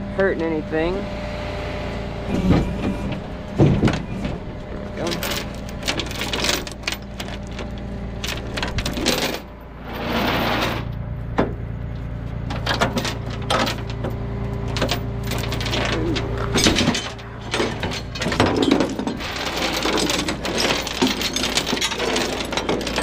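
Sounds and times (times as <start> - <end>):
truck engine idling: 0.0 - 19.8
chain rattling on metal deck: 2.4 - 10.9, 12.5 - 23.0.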